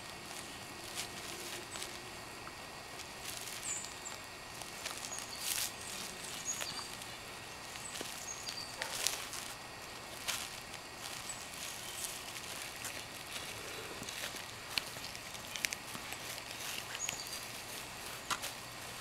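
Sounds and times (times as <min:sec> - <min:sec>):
outdoor background hiss: 0:00.0 - 0:19.0
plastic bag crinkling: 0:02.9 - 0:19.0.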